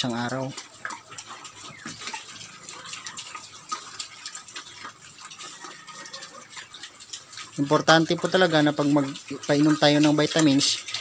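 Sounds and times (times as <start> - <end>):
pigs slurping and smacking: 0.0 - 11.0
small overlapping clicks: 0.0 - 11.0.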